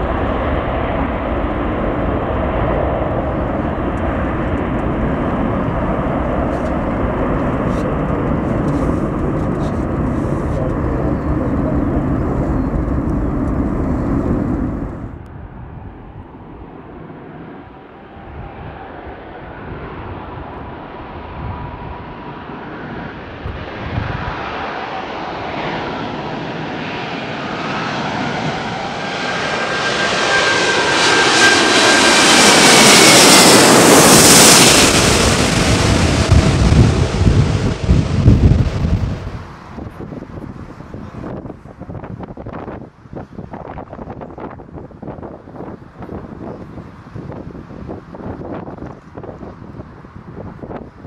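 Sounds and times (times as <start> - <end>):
jet airliner passing low overhead: 0.0 - 51.0
jet engines of climbing plane: 0.0 - 51.0.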